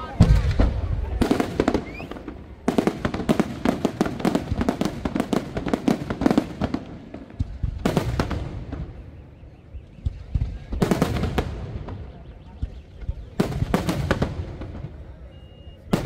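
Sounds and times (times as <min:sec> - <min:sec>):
fireworks bursting and popping: 0:00.0 - 0:16.0.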